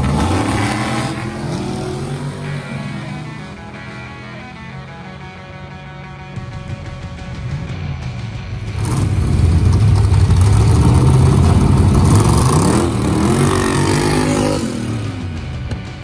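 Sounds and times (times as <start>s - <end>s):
loud engine revving: 0.0s - 5.6s, 6.3s - 15.8s.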